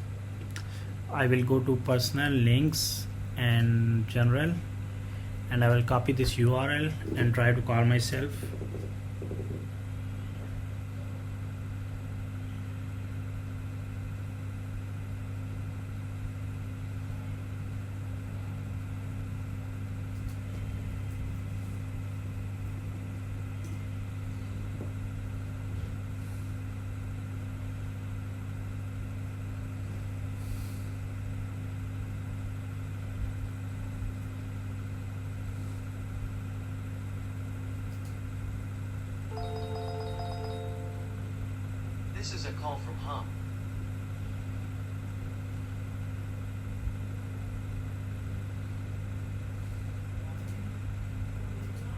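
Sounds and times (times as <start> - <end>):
low background hum: 0.0 - 51.9.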